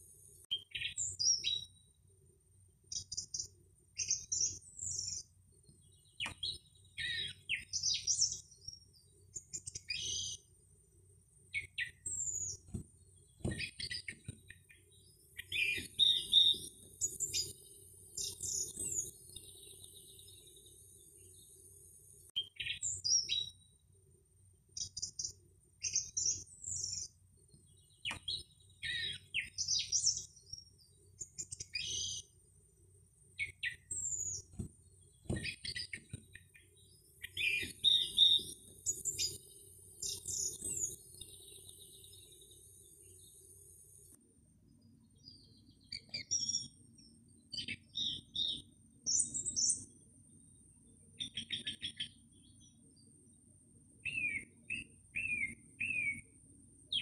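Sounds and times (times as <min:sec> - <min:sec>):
small birds chirping: 0:00.0 - 0:24.0, 0:24.7 - 0:57.0.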